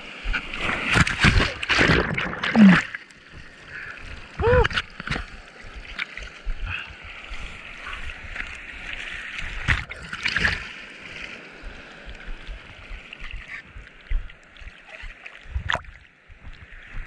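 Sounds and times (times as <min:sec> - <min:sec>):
water splashing over camera: 0:00.2 - 0:16.0.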